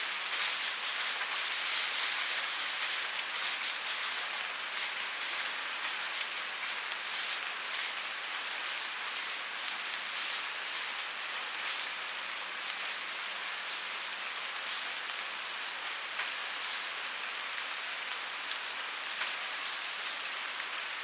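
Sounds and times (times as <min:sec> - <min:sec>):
steady rainfall: 0:00.0 - 0:21.0.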